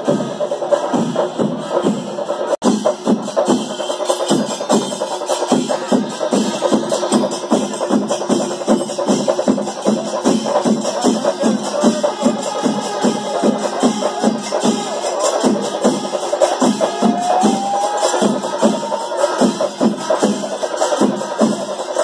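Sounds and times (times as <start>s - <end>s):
drum ensemble beating: 0.0s - 22.0s.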